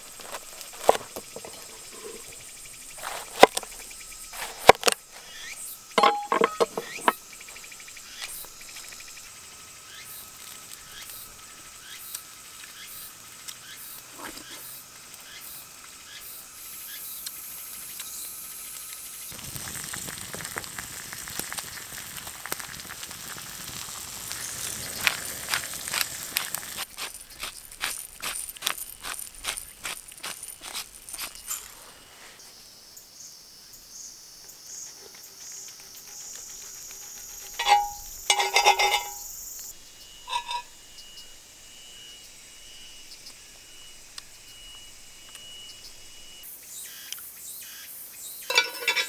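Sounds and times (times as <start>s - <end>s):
insects chirping: 0.0s - 49.0s.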